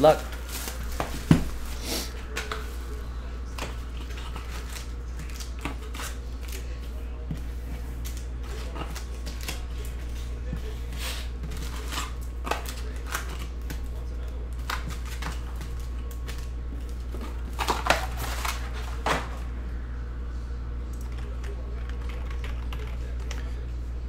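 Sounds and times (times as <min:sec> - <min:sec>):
foil card packs rustling: 0:00.0 - 0:19.4
steady low hum: 0:00.0 - 0:24.0.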